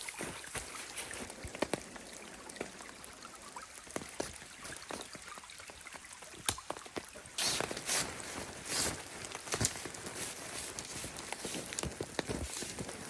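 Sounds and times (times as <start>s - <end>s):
sharp drips and ticks: 0.0s - 13.0s
water trickling: 0.0s - 13.0s.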